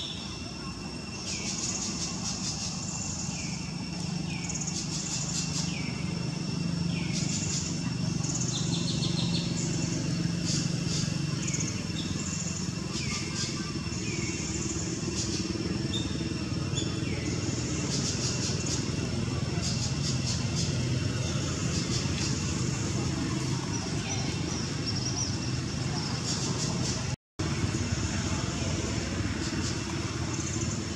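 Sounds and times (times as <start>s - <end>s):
buzzy chirping trills: 0.0s - 30.9s
low steady rumble: 0.0s - 30.9s.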